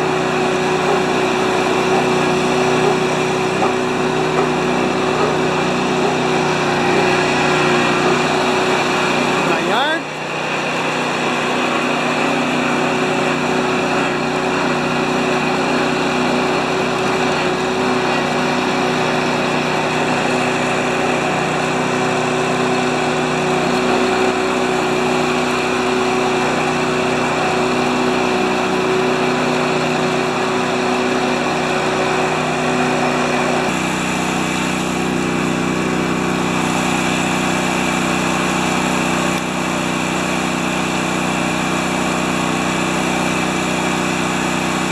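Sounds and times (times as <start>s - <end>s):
small gasoline engine running: 0.0s - 44.9s.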